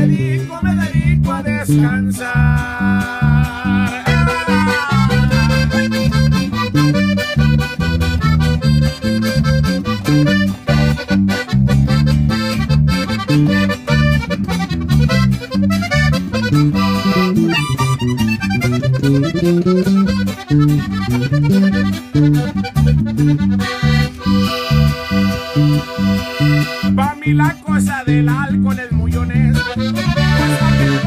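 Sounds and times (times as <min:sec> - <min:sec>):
electric bass: 0:00.0 - 0:31.0
strummed acoustic guitar: 0:00.0 - 0:31.0
button accordion melody: 0:02.6 - 0:28.4, 0:29.4 - 0:31.0.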